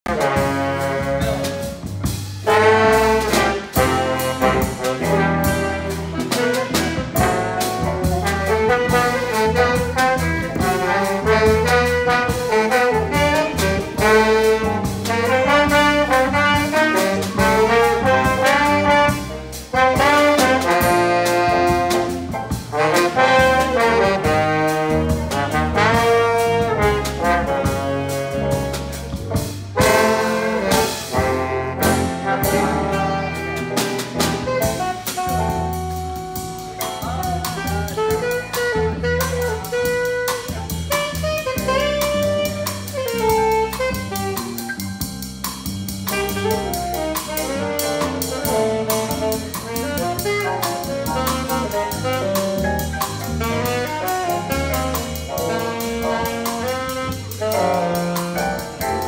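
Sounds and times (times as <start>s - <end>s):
drum kit: 0.0s - 59.0s
electric bass line: 0.0s - 59.0s
saxophones and trombone: 0.0s - 59.0s.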